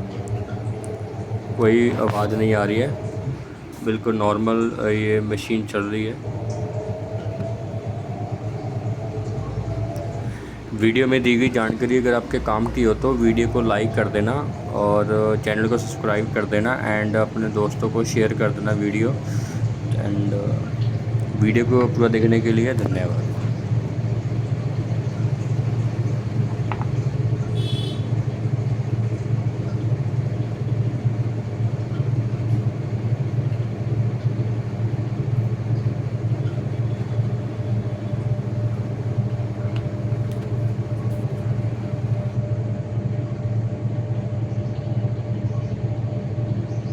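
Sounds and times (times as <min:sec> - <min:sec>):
washing machine drum spinning: 0:00.0 - 0:42.4.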